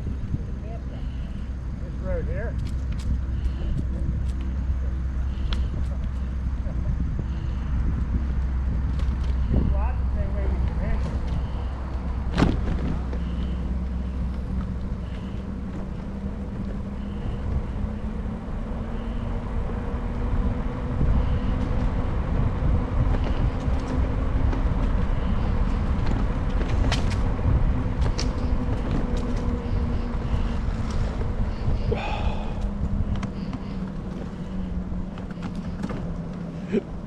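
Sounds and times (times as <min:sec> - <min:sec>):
steady low hum: 0:00.0 - 0:37.0
wind and road noise: 0:00.0 - 0:37.0.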